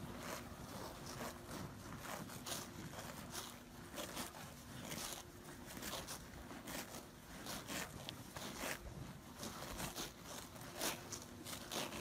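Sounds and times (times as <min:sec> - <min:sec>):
cattle tearing grass: 0:00.0 - 0:12.0.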